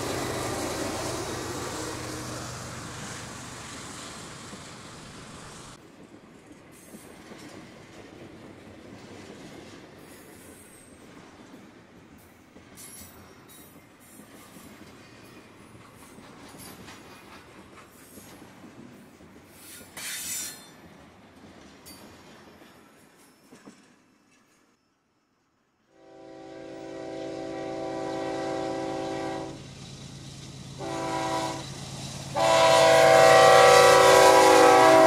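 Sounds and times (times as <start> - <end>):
train wheels rumbling on rail: 0.0 - 24.8, 26.0 - 35.0.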